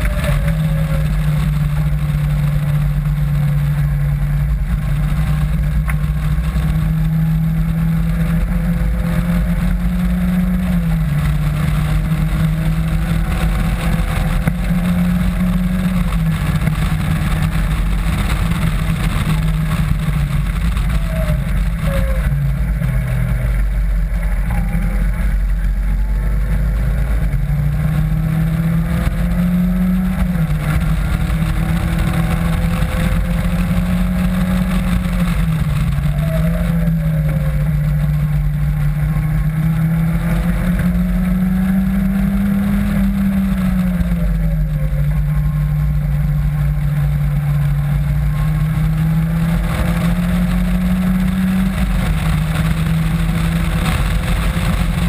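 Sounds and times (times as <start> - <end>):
car engine revving: 0.0 - 55.0
road noise: 0.0 - 55.0
wind noise: 0.0 - 55.0.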